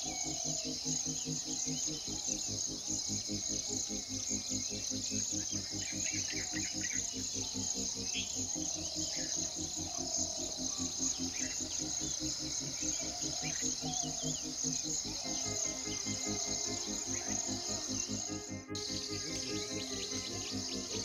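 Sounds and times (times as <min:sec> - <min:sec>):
high-pitched insect chorus: 0:00.0 - 0:21.0
low repeating pulse: 0:00.0 - 0:21.0.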